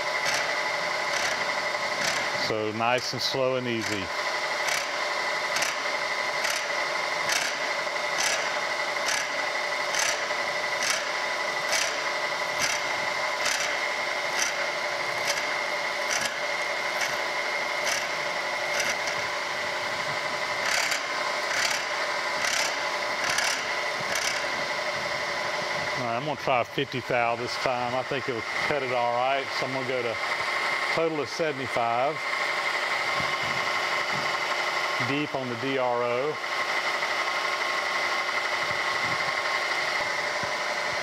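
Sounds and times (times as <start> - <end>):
saw whine: 0.0 - 41.0.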